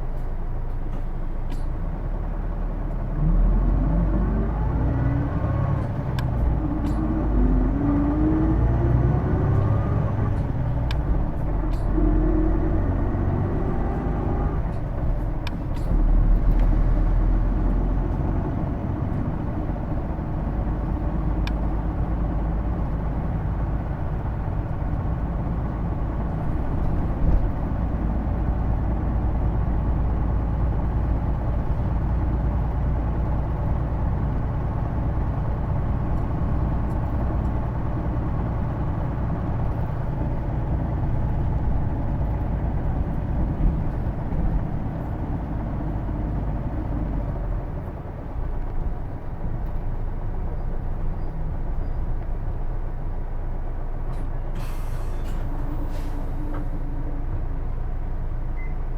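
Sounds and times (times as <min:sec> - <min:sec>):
bus drivetrain whine: 0:00.0 - 0:58.9
bus engine drone: 0:00.0 - 0:58.9.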